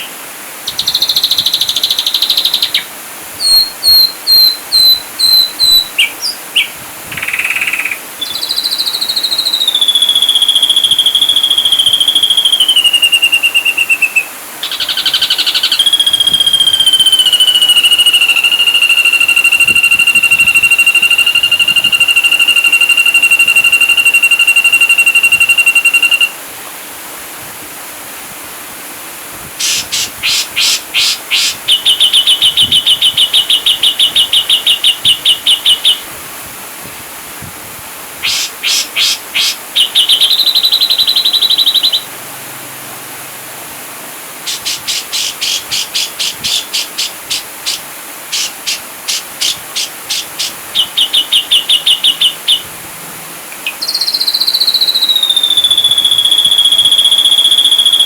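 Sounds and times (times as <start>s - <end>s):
bird song whistles and trills: 0.0s - 26.4s, 29.6s - 36.1s, 38.2s - 42.1s, 44.5s - 52.7s, 53.6s - 58.0s
steady hiss: 0.0s - 58.0s.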